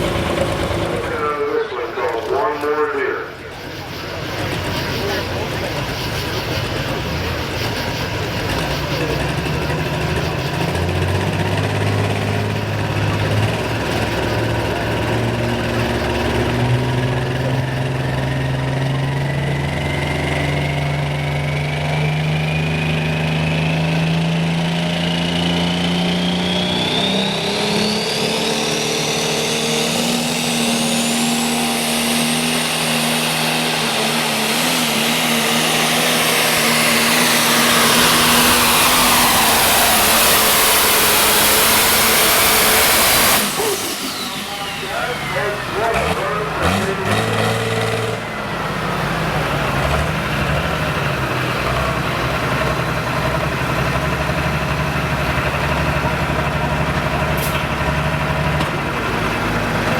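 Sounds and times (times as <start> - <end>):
high turbocharger whistle: 0.0 - 49.9
tractor diesel engine under load: 0.0 - 59.9.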